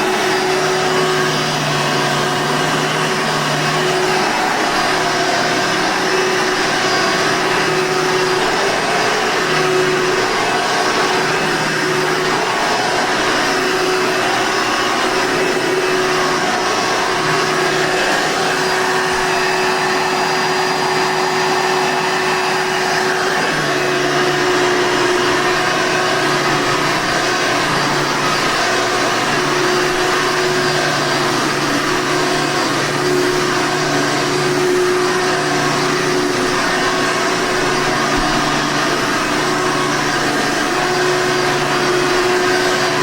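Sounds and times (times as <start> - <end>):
vacuum cleaner motor whine: 0.0 - 43.0.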